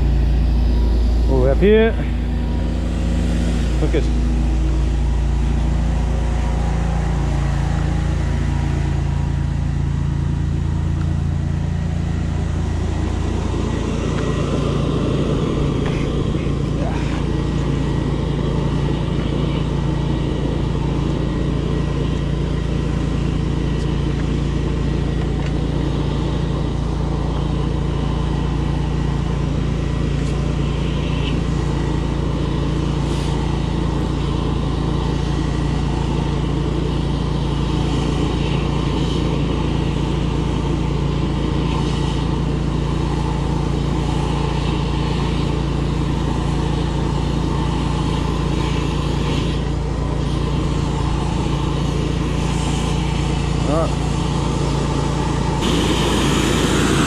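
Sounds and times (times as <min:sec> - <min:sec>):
drain jetter engine and pump: 0:00.0 - 0:57.0.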